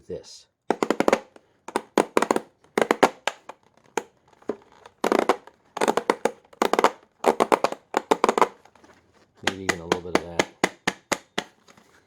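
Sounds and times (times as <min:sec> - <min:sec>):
vacuum filter rapped against edge: 0:00.7 - 0:08.7, 0:09.4 - 0:11.8.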